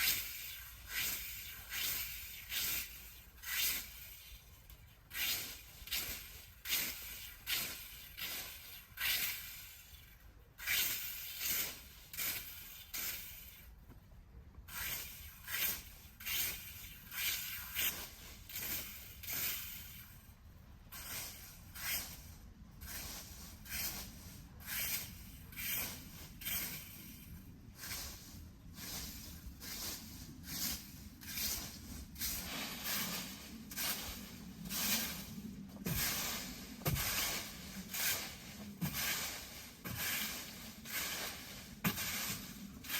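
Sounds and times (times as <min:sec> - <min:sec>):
rasping scraping strokes: 0:00.0 - 0:13.8, 0:14.6 - 0:42.9.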